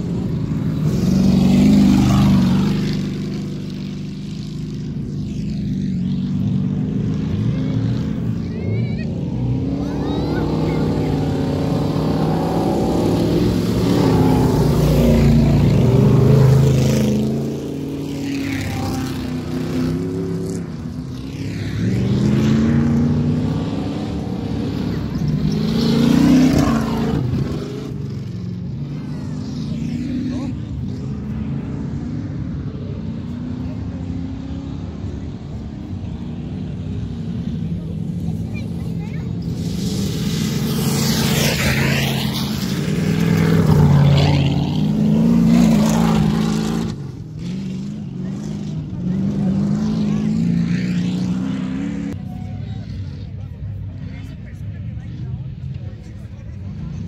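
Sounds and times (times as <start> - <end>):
race car engines revving past: 0.0 - 57.0.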